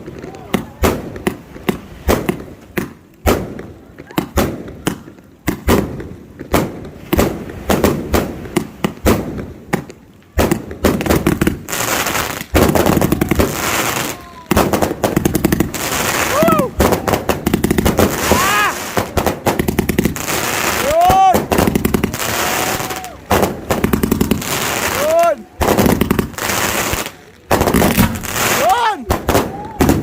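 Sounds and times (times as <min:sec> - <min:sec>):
fireworks booming and crackling: 0:00.0 - 0:30.0.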